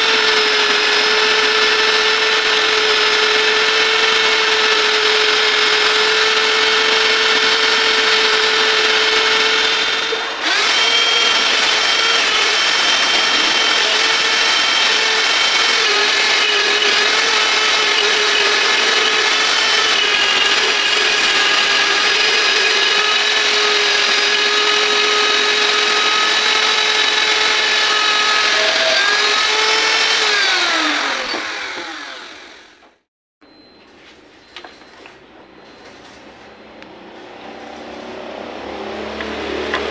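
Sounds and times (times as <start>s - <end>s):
grinder whining: 0.0s - 33.0s.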